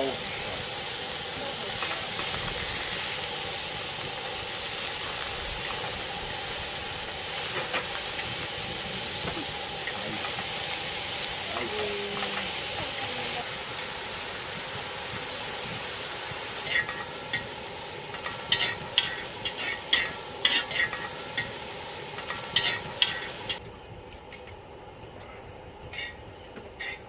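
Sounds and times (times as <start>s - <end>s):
meat sizzling on a grill: 0.0s - 23.6s.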